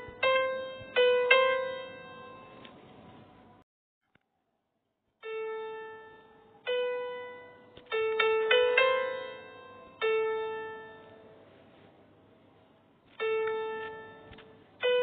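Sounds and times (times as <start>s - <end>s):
slow piano notes: 0.0s - 3.6s, 5.2s - 15.0s.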